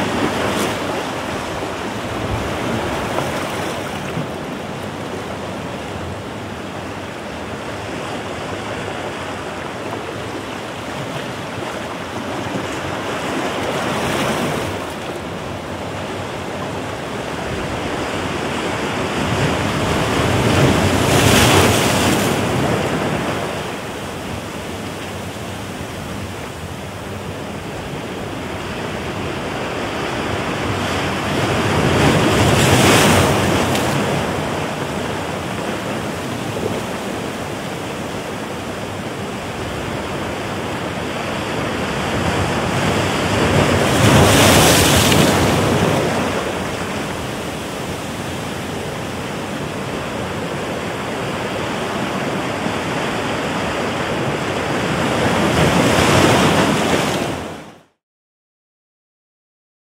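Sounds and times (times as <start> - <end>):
ocean surf on rocky shore: 0.0 - 58.0.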